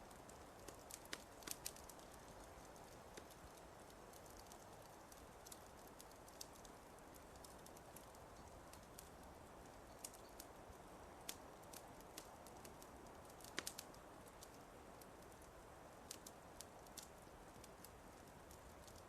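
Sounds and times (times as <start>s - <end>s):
faint steady hiss: 0.0s - 19.0s
wood fire crackling: 0.0s - 19.0s.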